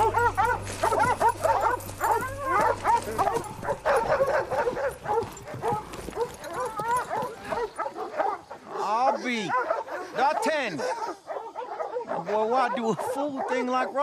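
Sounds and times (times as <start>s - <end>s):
dogs barking and yelping: 0.0s - 14.0s.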